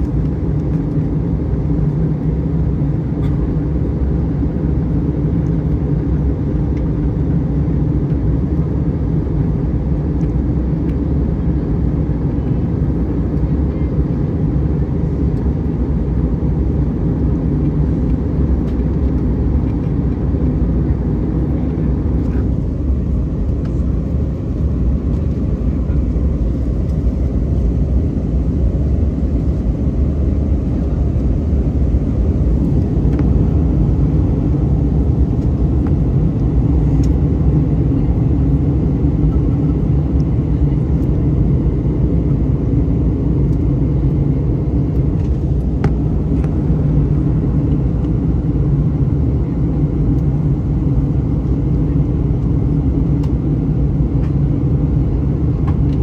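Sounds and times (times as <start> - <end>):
airflow over fuselage: 0.0 - 56.0
airplane cabin engine rumble: 0.0 - 56.0.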